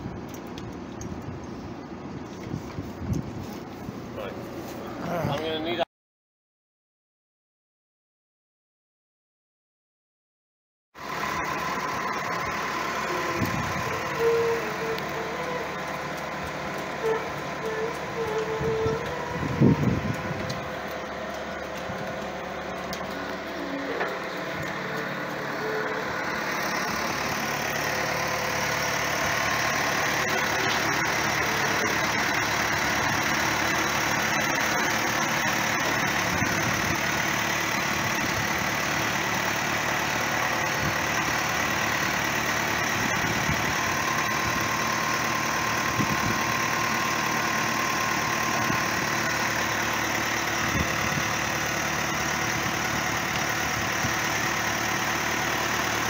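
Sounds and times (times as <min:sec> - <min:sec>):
diesel engine running: 0:00.0 - 0:05.8, 0:11.0 - 0:56.0.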